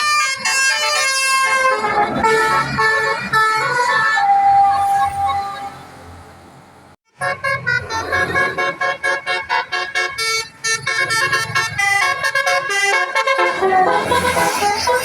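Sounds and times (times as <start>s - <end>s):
multi-tone bus horn tune: 0.0s - 5.8s, 7.1s - 15.0s.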